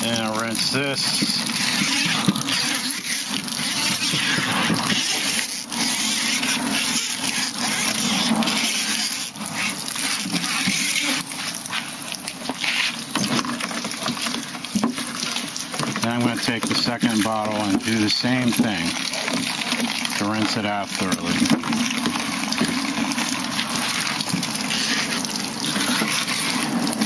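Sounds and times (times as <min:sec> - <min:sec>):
water rushing out: 0:00.0 - 0:27.0
water splashing through fins: 0:00.0 - 0:27.0.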